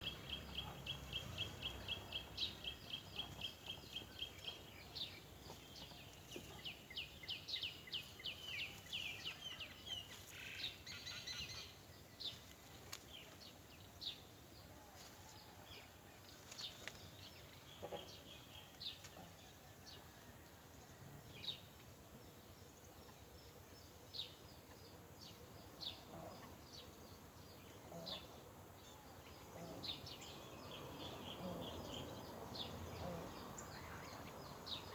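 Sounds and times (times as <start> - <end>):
small birds chirping: 0.0 - 20.4, 21.3 - 34.9.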